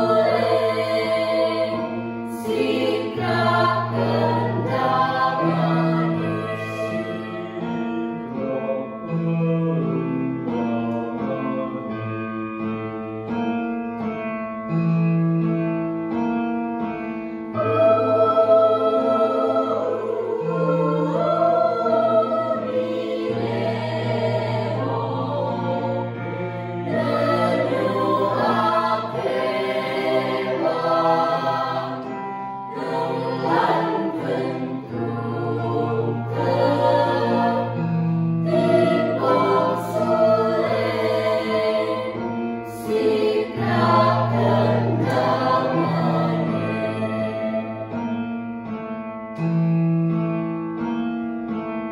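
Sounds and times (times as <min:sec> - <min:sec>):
mixed choir singing in parts: 0:00.0 - 0:12.1, 0:17.5 - 0:48.2.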